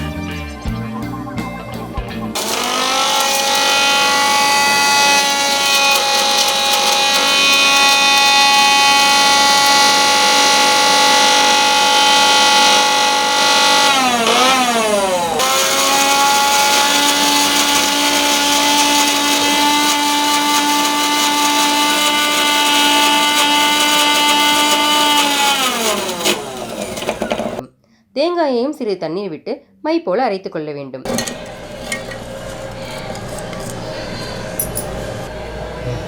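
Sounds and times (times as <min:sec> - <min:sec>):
mixer grinder motor whining: 0:02.4 - 0:27.6, 0:31.1 - 0:36.0.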